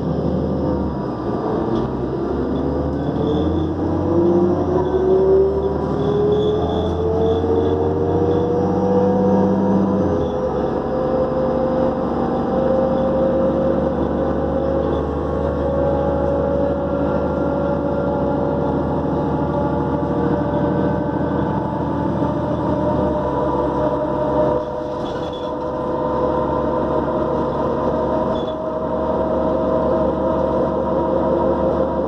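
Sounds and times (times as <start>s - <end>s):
bus engine drone: 0.0s - 32.0s
turbocharger whine: 0.0s - 32.0s.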